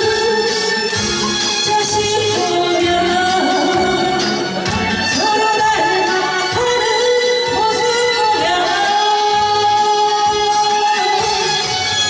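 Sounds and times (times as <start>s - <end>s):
instrumental backing track: 0.0s - 12.0s
person singing: 0.0s - 12.0s.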